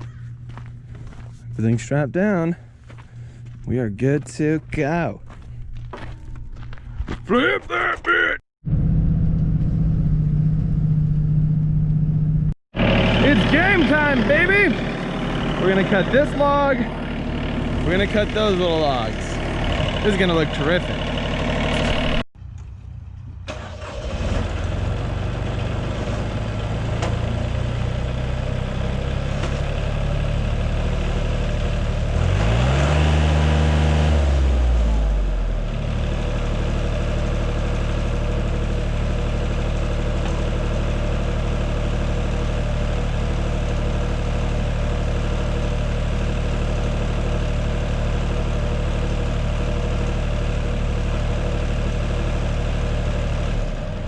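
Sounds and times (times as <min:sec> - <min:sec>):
sawmill engine running: 0:08.8 - 0:54.0.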